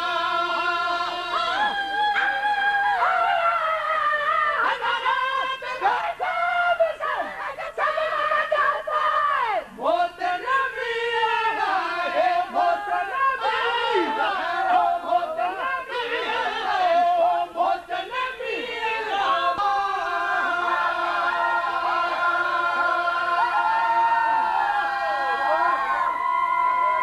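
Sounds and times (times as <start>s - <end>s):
men singing and chanting: 0.0s - 24.7s
long held vocal notes: 0.0s - 26.2s.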